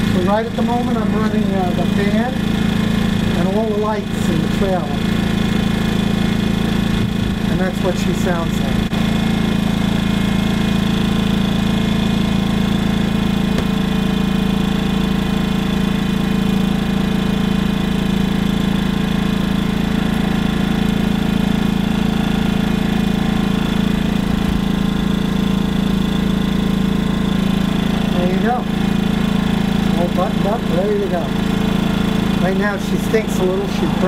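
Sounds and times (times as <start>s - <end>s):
generator engine humming: 0.0s - 34.0s.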